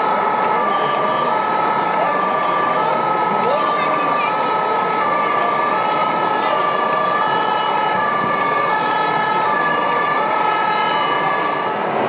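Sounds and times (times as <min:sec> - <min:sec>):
two-tone fire engine siren: 0:00.0 - 0:12.0.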